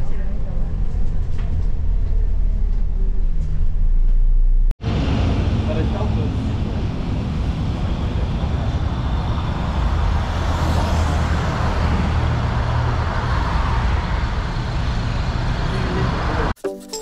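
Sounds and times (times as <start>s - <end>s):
bus driving by: 0.0s - 16.6s
road traffic passing: 0.0s - 16.6s.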